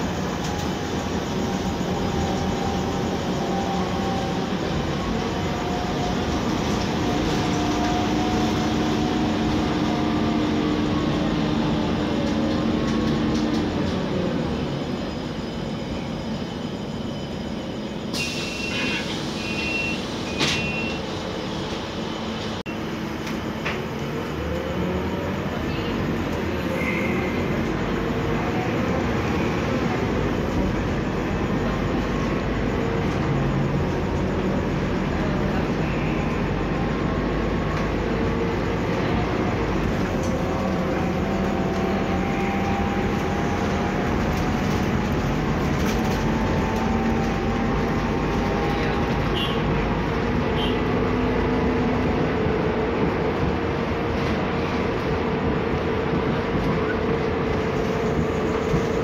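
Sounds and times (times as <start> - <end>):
bus cabin drone: 0.0 - 59.0.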